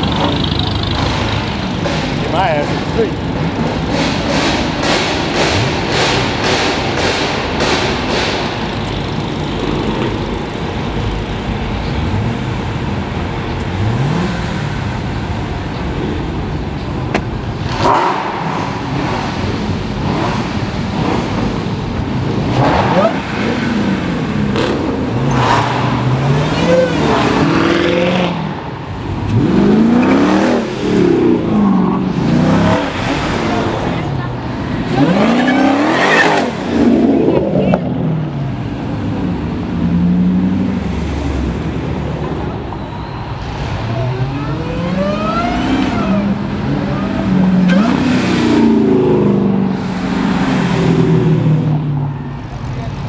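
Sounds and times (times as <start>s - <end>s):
engine rumble: 0.0s - 53.0s
loud exhausts revving: 0.0s - 53.0s.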